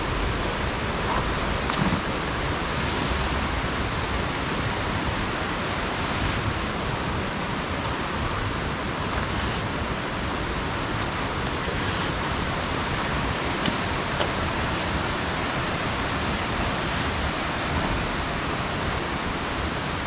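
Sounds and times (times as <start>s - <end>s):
heavy rain hiss: 0.0s - 20.0s.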